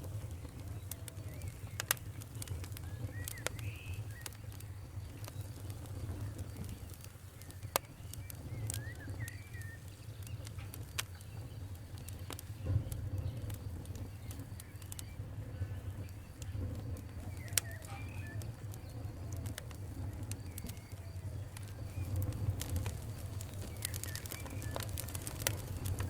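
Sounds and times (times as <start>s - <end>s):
low steady rumble: 0.0s - 26.0s
wood fire crackling: 0.0s - 26.0s.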